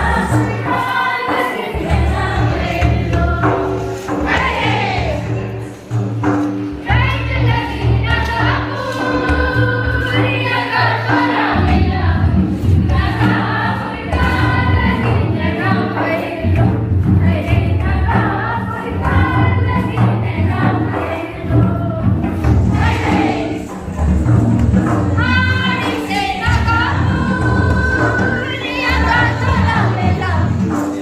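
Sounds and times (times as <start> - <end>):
group of voices singing: 0.0 - 31.0
steady drum beat: 0.0 - 31.0.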